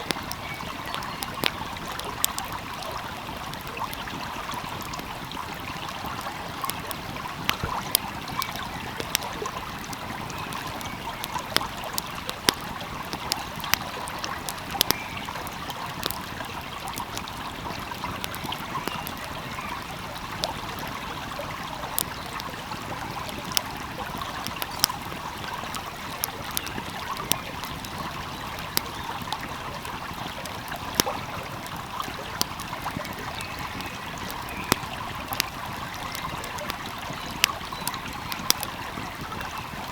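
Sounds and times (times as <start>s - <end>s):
stream flowing: 0.0s - 39.9s
wood fire crackling: 0.0s - 39.9s.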